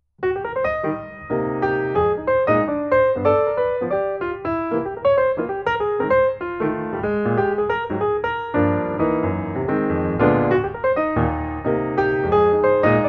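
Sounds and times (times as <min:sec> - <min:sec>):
background piano music: 0:00.2 - 0:13.0.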